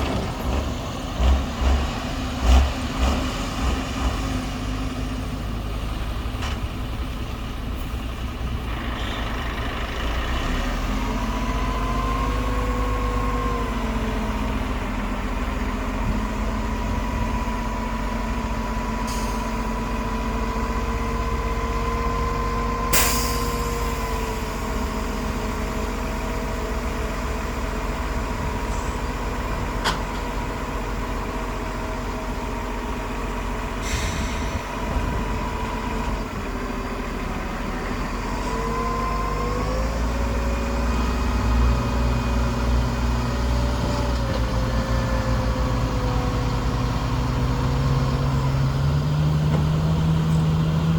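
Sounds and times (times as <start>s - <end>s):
heavy diesel machinery droning: 0.0s - 50.9s.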